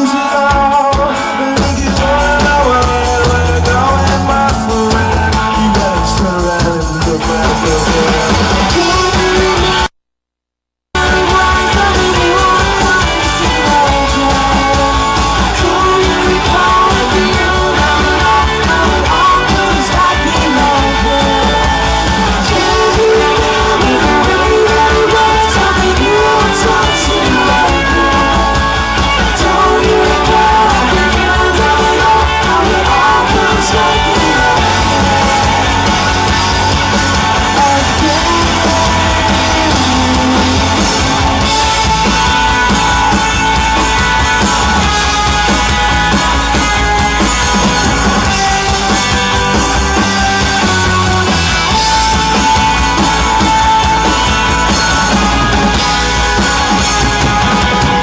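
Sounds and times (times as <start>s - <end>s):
rock band playing live: 0.0s - 10.0s, 10.9s - 58.0s.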